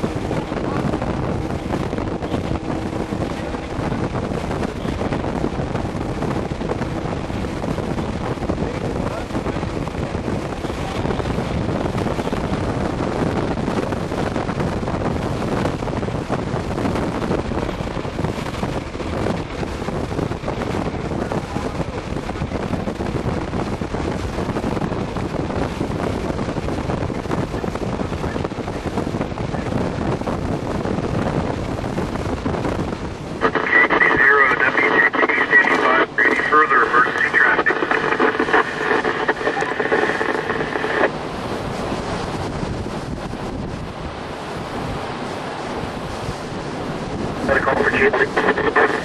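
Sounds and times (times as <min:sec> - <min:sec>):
vehicle road noise: 0:00.0 - 0:49.0
wind buffeting microphone: 0:00.0 - 0:49.0.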